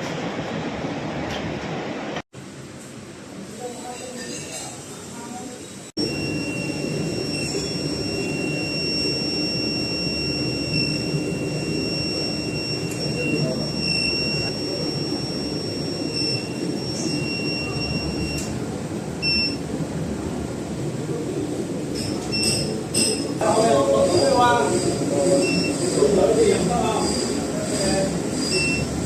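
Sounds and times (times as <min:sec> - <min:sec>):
high-pitched furnace whine: 0:00.0 - 0:29.0.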